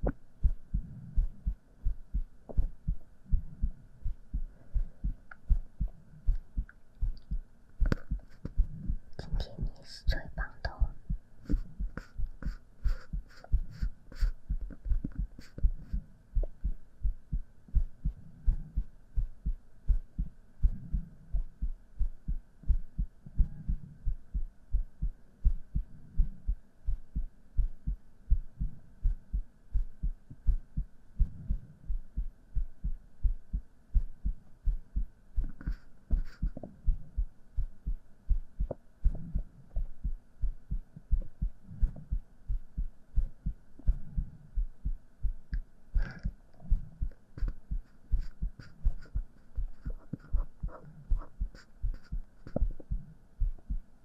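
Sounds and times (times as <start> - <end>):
heartbeat thumps: 0.0 - 53.9.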